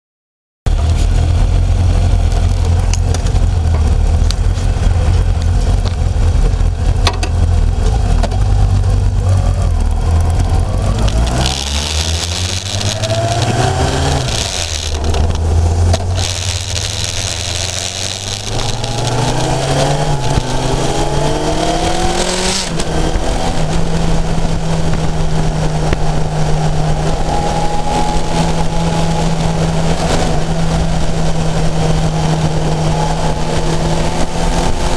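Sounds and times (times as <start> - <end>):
motorcycle engine revving: 0.7 - 34.9
wind and road noise: 0.7 - 34.9.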